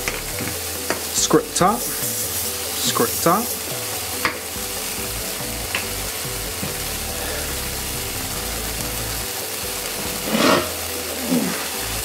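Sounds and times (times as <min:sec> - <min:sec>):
sandwiches sizzling in a skillet: 0:00.0 - 0:12.0.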